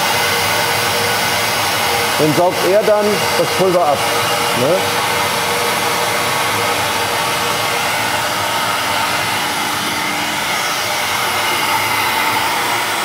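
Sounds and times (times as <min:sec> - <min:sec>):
blower rushing: 0:00.0 - 0:13.0.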